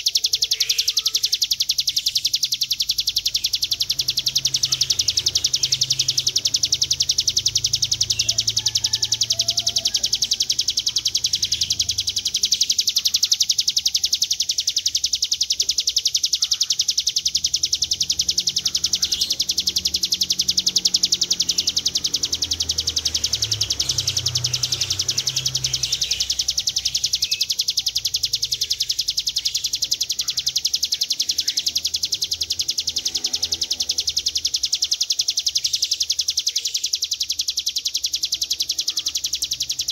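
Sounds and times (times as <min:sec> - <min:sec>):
bird singing rapid high trill: 0:00.0 - 0:39.9.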